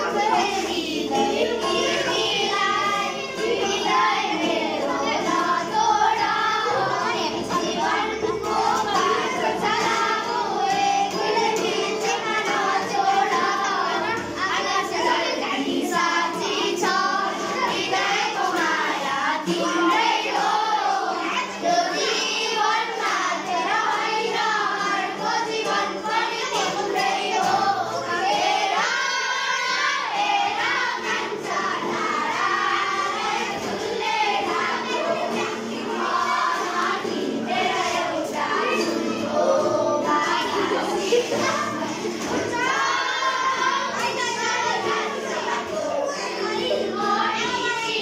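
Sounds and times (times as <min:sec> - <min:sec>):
children singing in chorus: 0:00.0 - 0:48.0.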